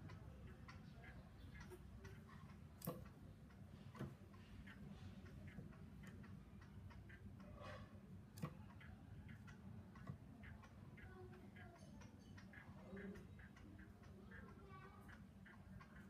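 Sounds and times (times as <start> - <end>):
bird chips and ticks: 0.0 - 16.0.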